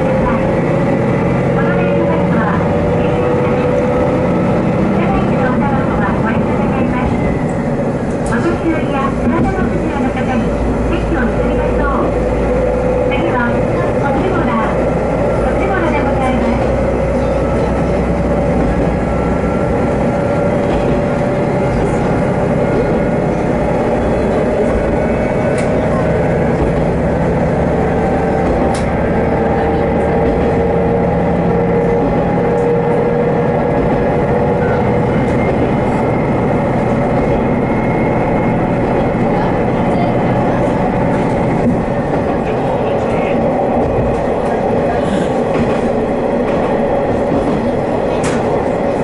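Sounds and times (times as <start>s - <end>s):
rail noise: 0.0s - 49.0s
railcar engine drone: 0.0s - 49.0s.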